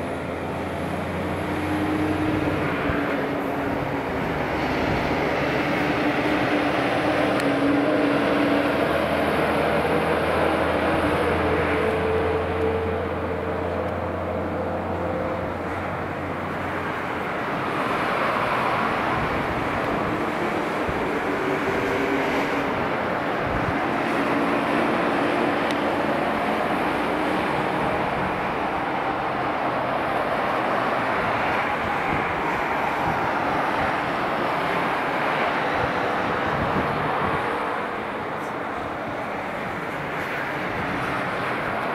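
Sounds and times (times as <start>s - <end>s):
distant jet engines roaring: 0.0s - 41.9s.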